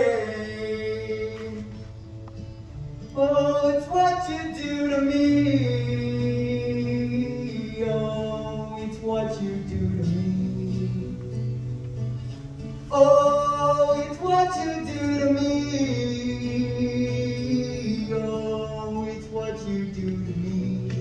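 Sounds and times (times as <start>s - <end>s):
man singing into microphone: 0.0s - 1.9s, 3.1s - 11.6s, 12.9s - 21.0s
acoustic guitar: 0.0s - 21.0s.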